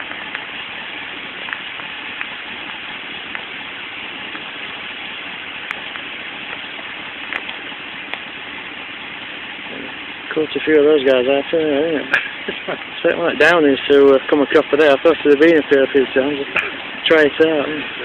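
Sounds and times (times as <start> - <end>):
rain hiss: 0.0 - 18.0
raindrops ticking close: 0.0 - 18.0.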